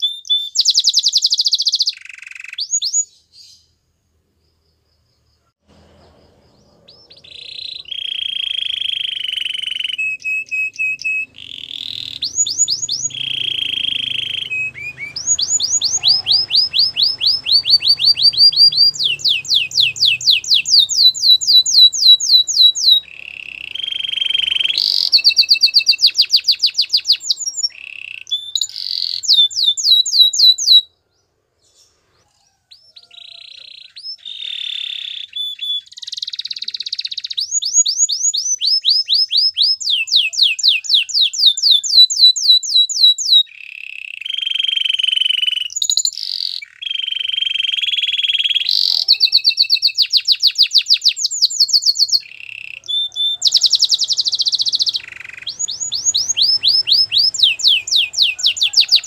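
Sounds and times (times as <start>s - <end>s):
canary singing: 0.0s - 3.8s, 4.9s - 59.0s.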